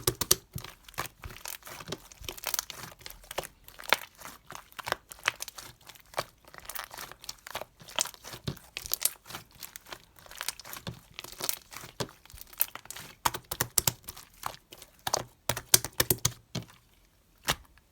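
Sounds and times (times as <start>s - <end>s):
material crinkling and crackling: 0.0s - 17.9s.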